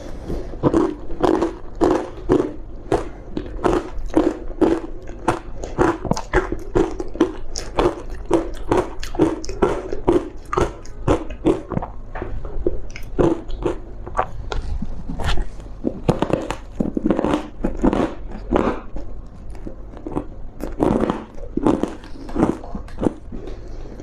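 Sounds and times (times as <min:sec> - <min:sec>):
crunching ice being chewed: 0:00.0 - 0:24.0.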